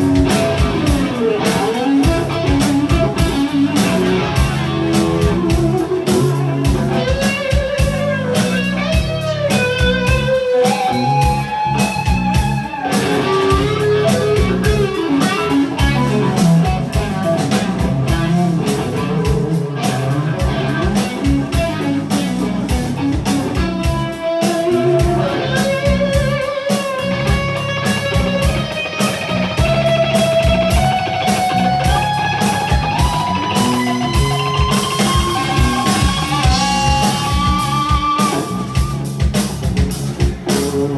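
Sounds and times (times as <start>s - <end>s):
electric guitar solo: 0.0s - 39.6s.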